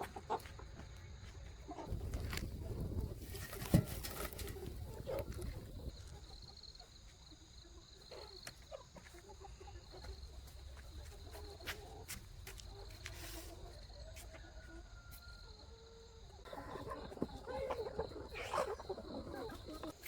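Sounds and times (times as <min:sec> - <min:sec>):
chickens clucking softly: 0:00.0 - 0:20.0.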